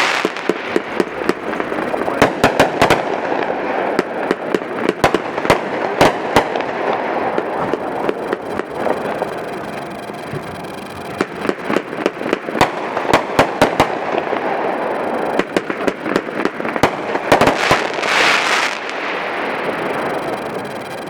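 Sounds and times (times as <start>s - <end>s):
firework crackle: 0.0s - 21.0s
firework shot reports: 0.0s - 21.0s.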